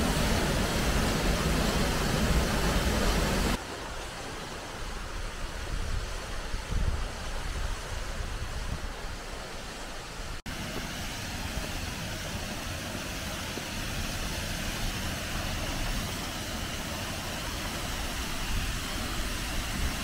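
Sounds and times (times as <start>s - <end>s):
river and waterfalls rushing: 0.0s - 20.0s.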